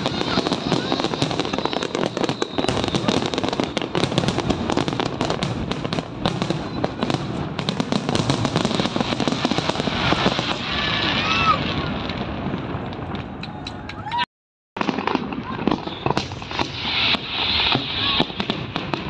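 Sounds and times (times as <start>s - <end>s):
fireworks bangs and crackling: 0.0s - 14.2s, 14.8s - 19.0s.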